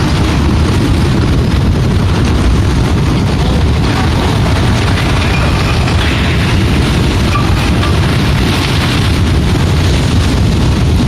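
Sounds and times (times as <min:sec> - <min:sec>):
mudslide rumbling: 0:00.0 - 0:11.0.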